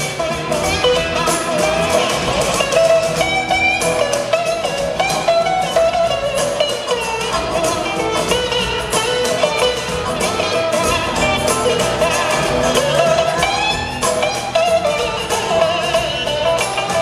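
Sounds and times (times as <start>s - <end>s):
blues-rock band playing: 0.0s - 17.0s
electric guitar bending notes: 0.0s - 17.0s.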